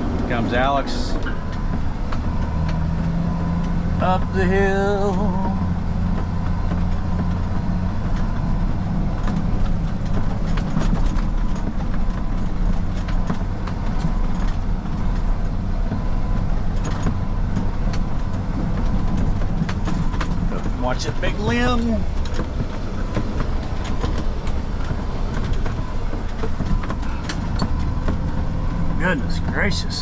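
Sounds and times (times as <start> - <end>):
truck engine running: 0.0 - 30.0
truck rattling over ruts: 0.0 - 30.0.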